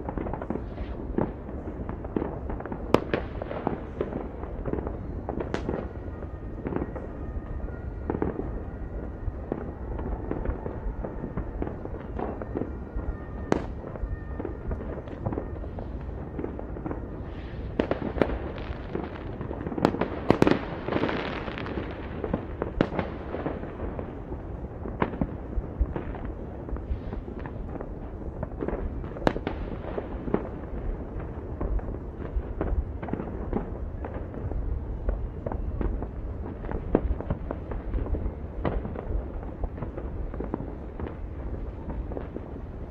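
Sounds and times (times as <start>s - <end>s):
fireworks and firecrackers: 0.0s - 42.9s.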